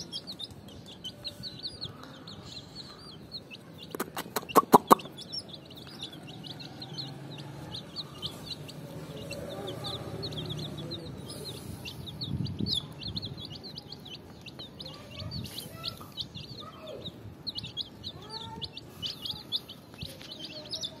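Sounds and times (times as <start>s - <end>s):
baby chicks peeping: 0.0s - 21.0s.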